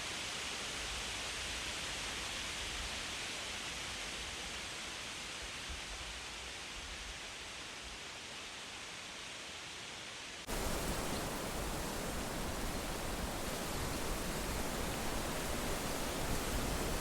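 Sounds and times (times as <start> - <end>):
wind rustling through leaves: 0.0 - 17.0.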